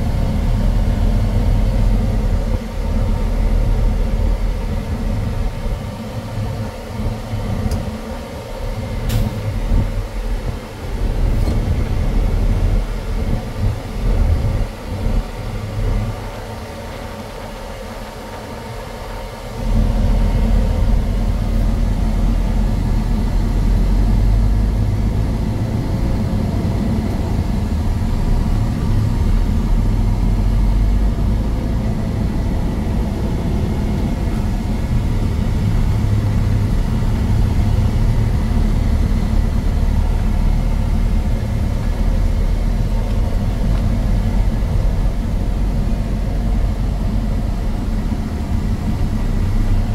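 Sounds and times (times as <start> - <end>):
truck diesel engine rumbling: 0.0 - 49.9.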